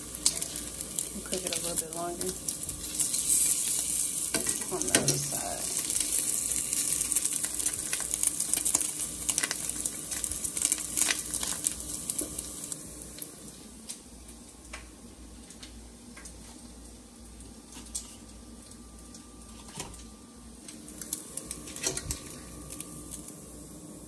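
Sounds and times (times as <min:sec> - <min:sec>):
bacon sizzling in a frying pan: 0:00.0 - 0:24.0.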